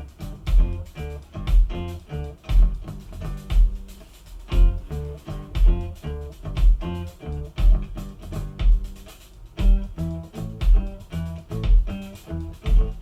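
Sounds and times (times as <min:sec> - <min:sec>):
music with guitar bass and drums: 0:00.0 - 0:13.0
deep kick-drum thump: 0:00.2 - 0:13.0.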